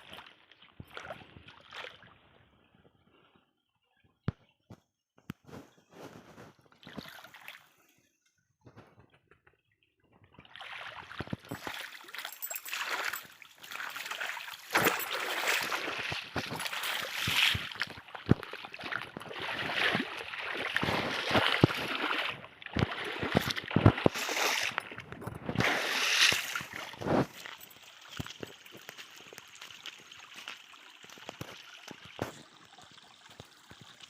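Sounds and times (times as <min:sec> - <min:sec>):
water splashing and gurgling: 0:00.0 - 0:02.5, 0:06.7 - 0:07.8, 0:10.2 - 0:34.0.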